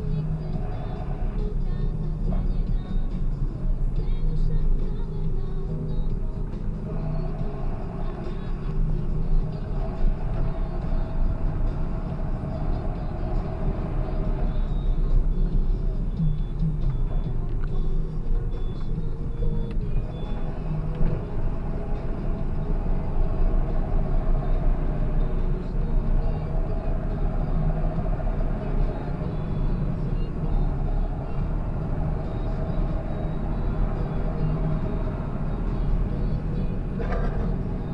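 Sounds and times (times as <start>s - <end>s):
road and drivetrain noise: 0.0s - 37.9s
tractor diesel engine running: 0.0s - 37.9s.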